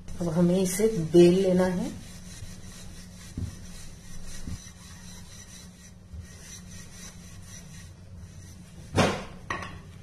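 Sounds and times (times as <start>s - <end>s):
rolling pin rubbing on dough: 0.1s - 9.0s.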